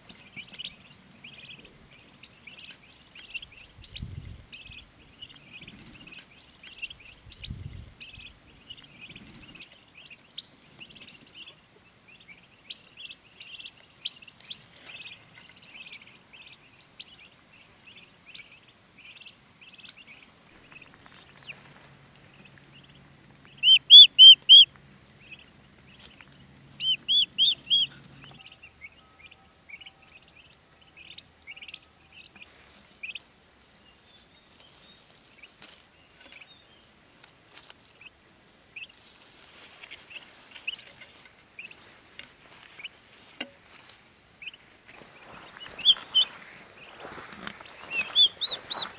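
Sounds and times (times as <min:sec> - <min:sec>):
turkey poults peeping: 0:00.0 - 0:48.9.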